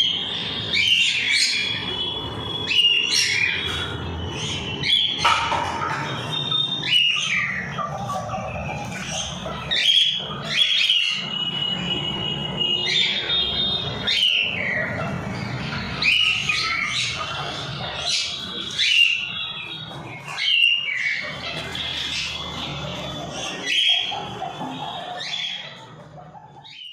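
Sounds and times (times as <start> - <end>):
shrill bird calls: 0.0 - 26.9.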